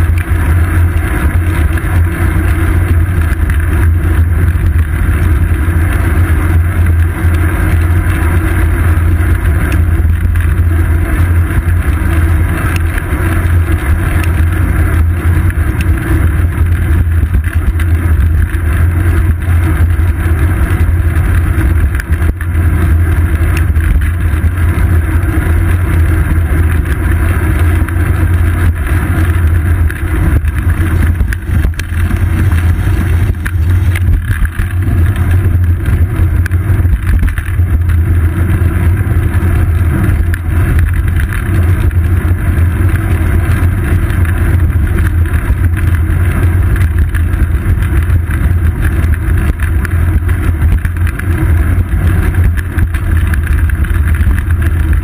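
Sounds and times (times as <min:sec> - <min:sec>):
bicycle road vibration rumble: 0:00.0 - 0:55.0
wind buffeting microphone: 0:00.0 - 0:55.0.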